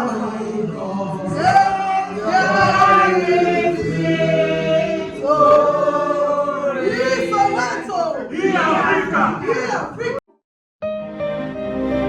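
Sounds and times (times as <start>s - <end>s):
group singing unaccompanied: 0.0s - 10.0s.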